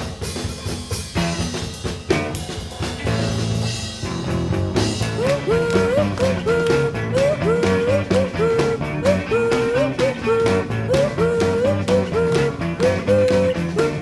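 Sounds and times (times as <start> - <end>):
garage rock music: 0.1 - 14.0.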